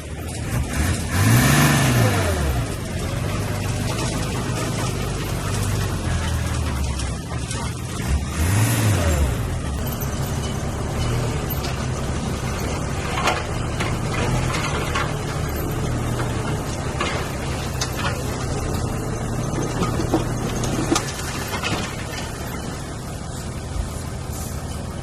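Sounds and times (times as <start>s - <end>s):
heavy diesel engine revving: 0.0s - 25.0s
sharp metal knocks and clanks: 2.6s - 22.9s.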